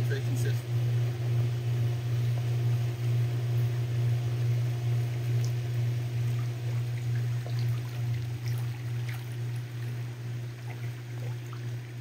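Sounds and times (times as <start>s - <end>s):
pool filter pump humming: 0.0s - 12.0s.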